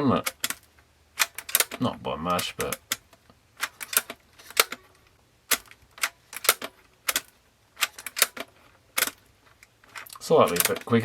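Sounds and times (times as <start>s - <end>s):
cassette deck plastic clicks: 0.3s - 11.0s.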